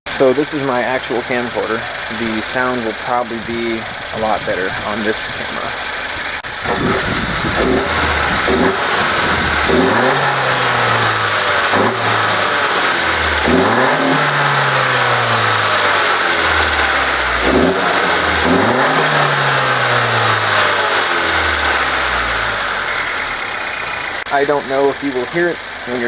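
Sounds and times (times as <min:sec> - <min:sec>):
car engine revving: 0:00.1 - 0:26.0.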